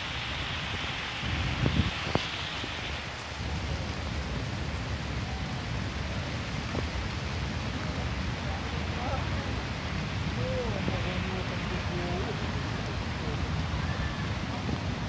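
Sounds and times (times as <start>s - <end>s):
rain falling on paving: 0.0s - 15.0s.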